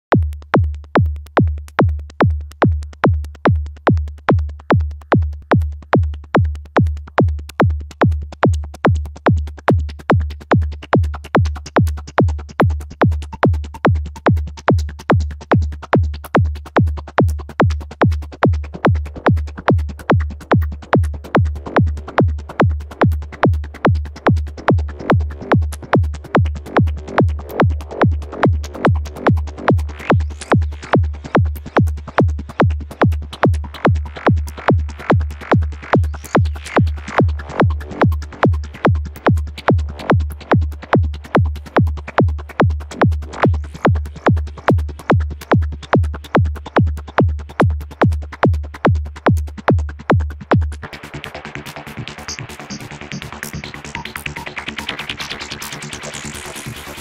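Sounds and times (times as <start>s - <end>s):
four-on-the-floor kick drum: 0.0s - 50.9s
trance synthesizers: 9.0s - 57.0s.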